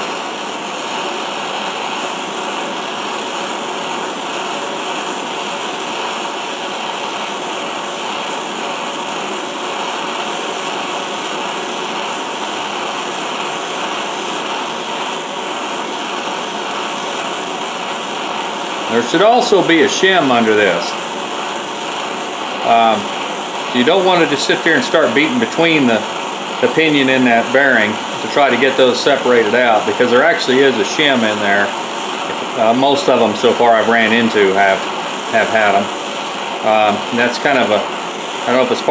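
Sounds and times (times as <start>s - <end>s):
propane torch hissing: 0.0s - 38.9s.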